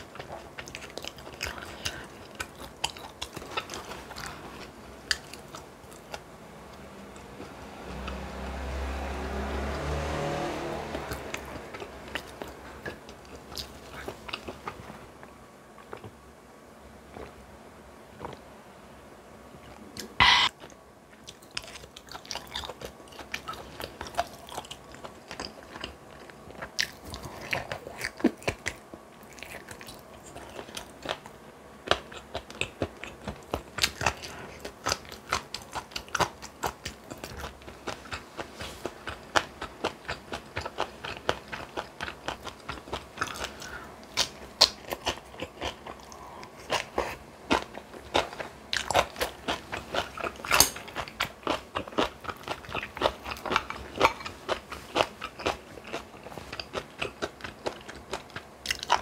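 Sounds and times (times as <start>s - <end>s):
person chewing crunchy food: 0.0s - 8.4s, 10.9s - 15.1s, 20.0s - 59.0s.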